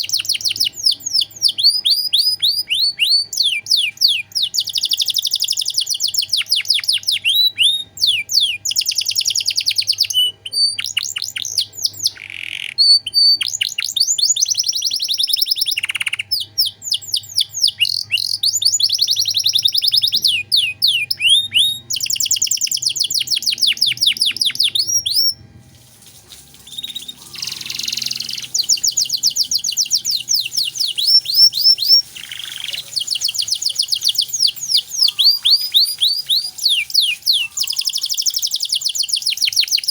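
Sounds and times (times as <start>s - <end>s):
canary singing trills: 0.0s - 25.5s, 26.6s - 39.9s.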